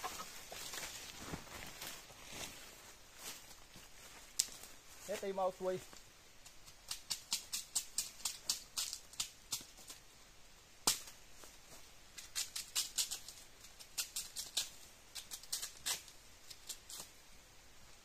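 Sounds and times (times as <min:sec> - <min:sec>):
dry bamboo leaves crackling: 0:00.0 - 0:10.1, 0:10.8 - 0:17.2.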